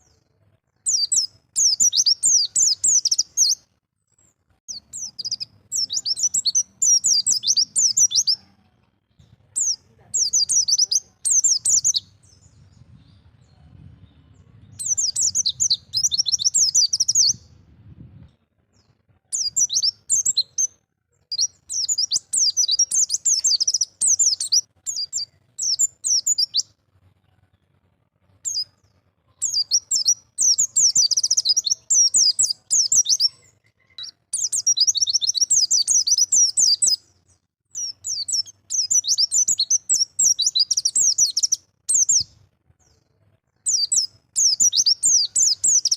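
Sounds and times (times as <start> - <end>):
bird twittering song: 0.0 - 26.8, 28.4 - 42.4, 43.6 - 45.9.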